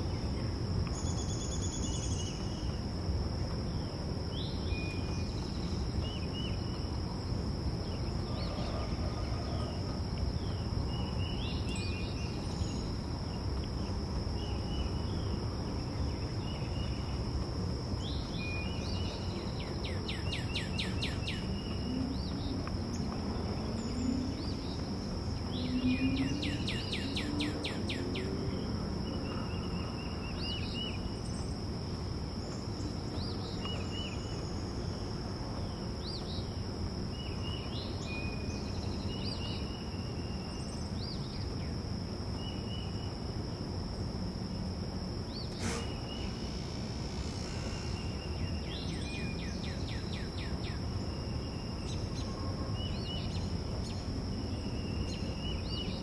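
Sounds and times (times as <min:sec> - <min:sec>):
insect drone: 0:00.0 - 0:56.0
songbirds chirping: 0:00.0 - 0:56.0.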